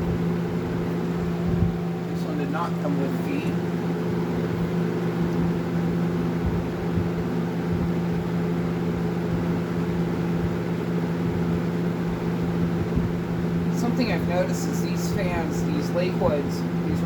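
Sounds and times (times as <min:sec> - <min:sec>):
box fan air rushing: 0:00.0 - 0:17.0
fan hum: 0:00.0 - 0:17.0.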